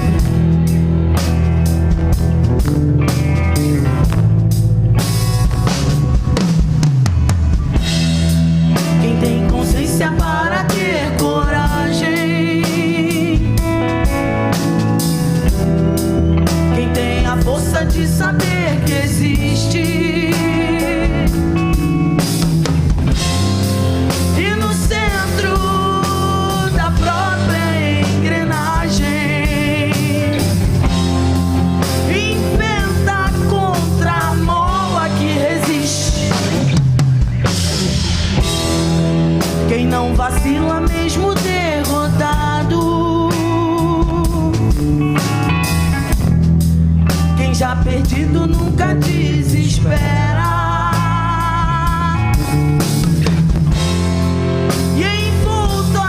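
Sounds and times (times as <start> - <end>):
bass guitar: 0.0 - 56.0
drum kit: 0.0 - 56.0
lead electric guitar bent notes: 0.0 - 56.0.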